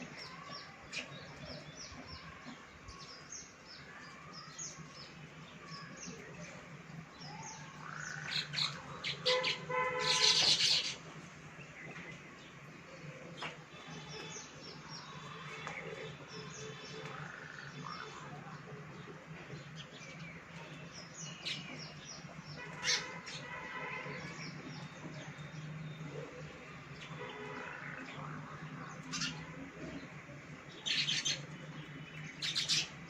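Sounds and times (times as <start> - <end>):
weaver birds chirping: 0.0 - 33.0.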